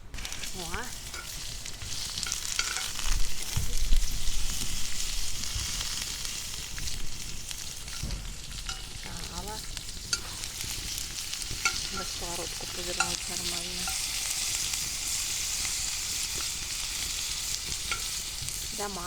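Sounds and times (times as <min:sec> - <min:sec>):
fat sizzling in a pan: 0:00.0 - 0:19.0.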